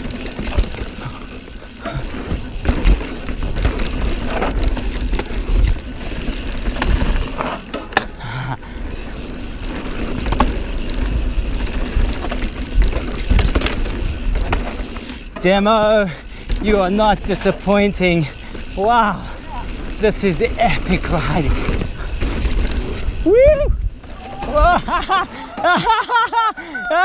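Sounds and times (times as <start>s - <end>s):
bike tyres crunching over dirt: 0.0s - 26.5s
bike rattling and knocking: 0.0s - 27.0s.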